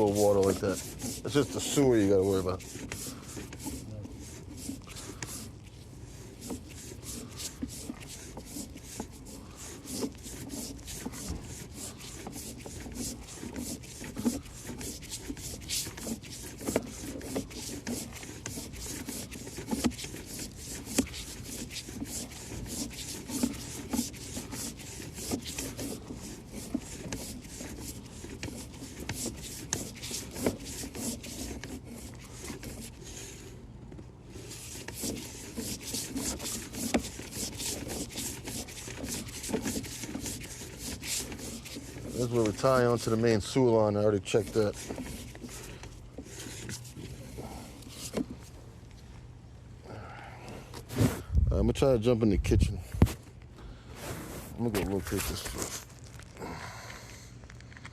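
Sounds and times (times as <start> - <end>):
camera scraping inside drain pipe: 0.0 - 49.1, 50.7 - 56.4, 57.0 - 57.9.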